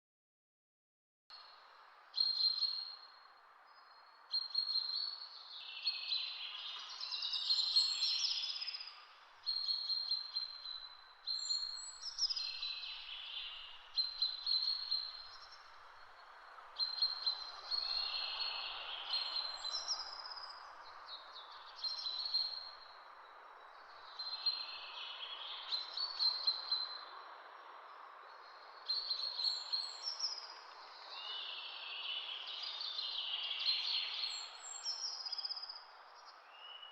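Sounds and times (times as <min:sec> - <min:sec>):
songbird singing: 0:01.3 - 0:36.9
outdoor ambient hiss: 0:01.4 - 0:36.9.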